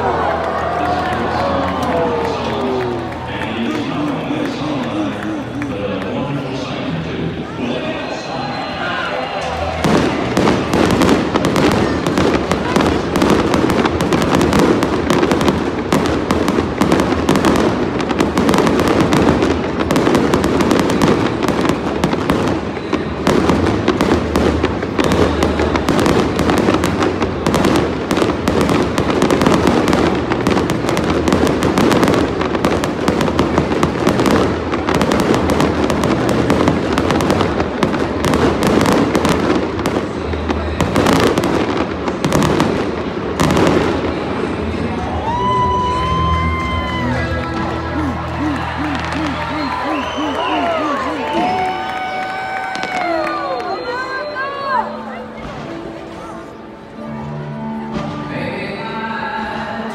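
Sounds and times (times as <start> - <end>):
fireworks bangs and crackles: 0.0 - 7.8, 8.4 - 56.6.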